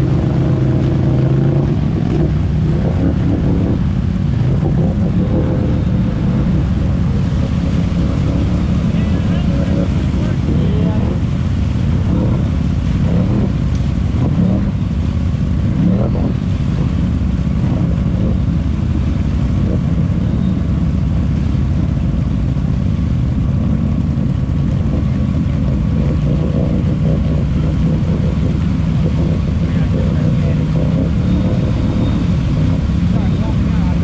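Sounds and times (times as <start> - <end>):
quad engine revving under load: 0.0 - 22.0, 23.5 - 34.0
churning through mud: 0.0 - 34.0.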